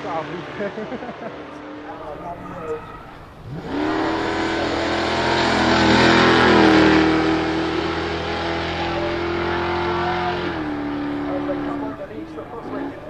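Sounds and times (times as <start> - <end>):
buggy engine running at high revs: 0.0 - 13.0.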